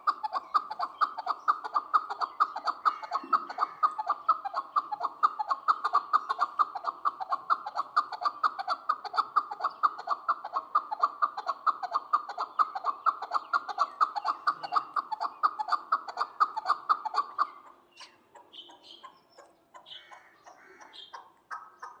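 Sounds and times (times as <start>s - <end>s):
partridge chuck calls: 0.0s - 22.0s.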